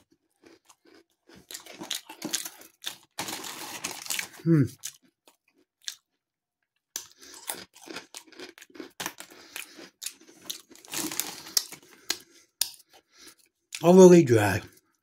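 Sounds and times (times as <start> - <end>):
chewing crunchy snacks: 0.0 - 13.9.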